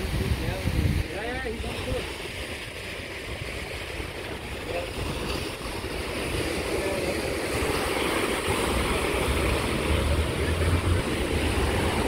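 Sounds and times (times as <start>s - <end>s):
surf washing in: 0.0s - 12.0s
wind buffeting microphone: 0.0s - 12.0s.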